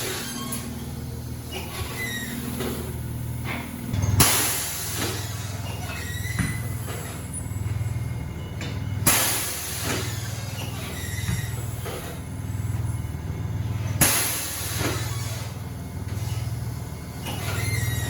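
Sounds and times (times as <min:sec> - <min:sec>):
steady low machine hum: 0:00.0 - 0:18.0.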